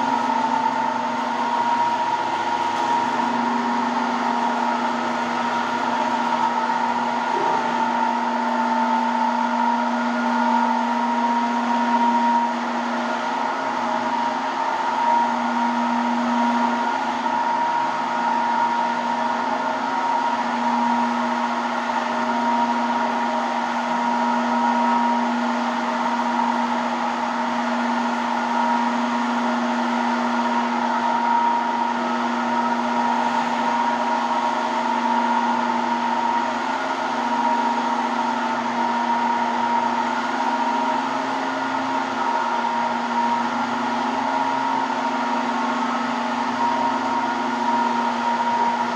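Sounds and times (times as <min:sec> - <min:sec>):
polishing machine motor whine: 0:00.0 - 0:48.9.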